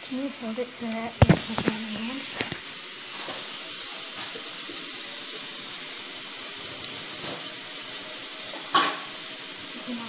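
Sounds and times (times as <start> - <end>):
steady high hiss: 0.0 - 10.0.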